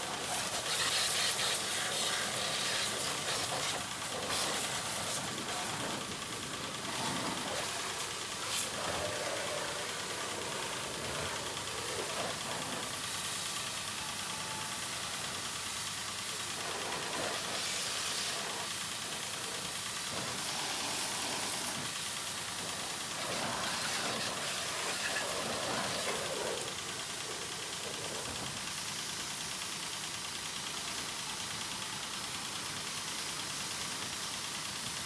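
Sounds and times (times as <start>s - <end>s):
pressure washer spraying: 0.0s - 13.9s, 14.7s - 30.0s
pressure washer motor running: 0.0s - 35.0s.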